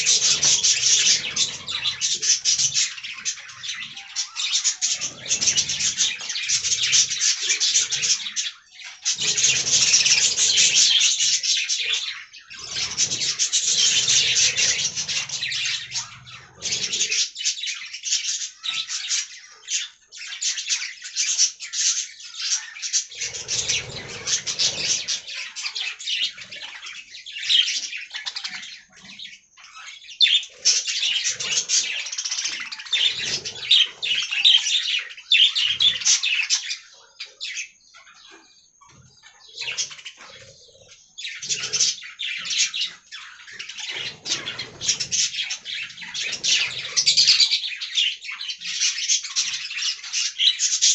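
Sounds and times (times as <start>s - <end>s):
budgerigars chirping and warbling: 0.0s - 50.9s.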